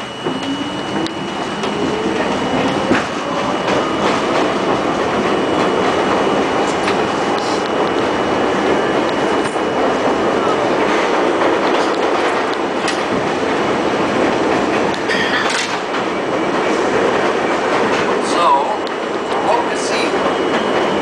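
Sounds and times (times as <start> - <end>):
rail-joint clicks: 0.0 - 6.0, 6.6 - 8.1, 8.7 - 20.9
subway wheels rumbling on rail: 0.0 - 21.0.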